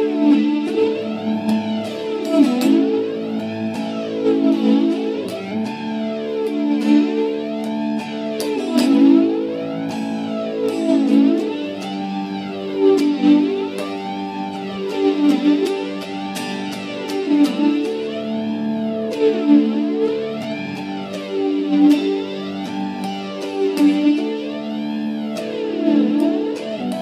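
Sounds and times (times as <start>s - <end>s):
electric guitar chords with flanger: 0.0s - 27.0s.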